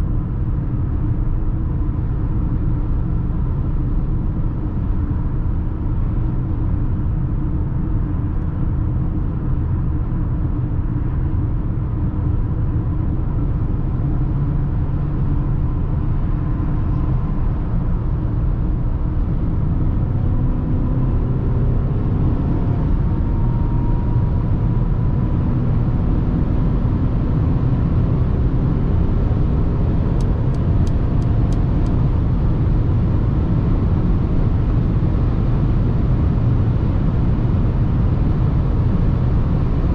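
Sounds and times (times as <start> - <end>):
car engine tyre and wind rumble: 0.0 - 39.9.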